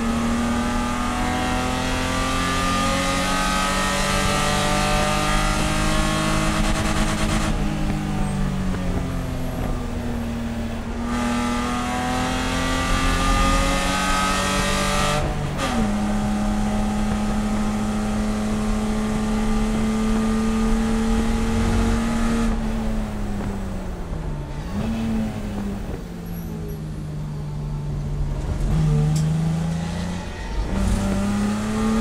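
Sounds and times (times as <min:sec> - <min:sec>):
race car engine at full throttle: 0:00.0 - 0:32.0.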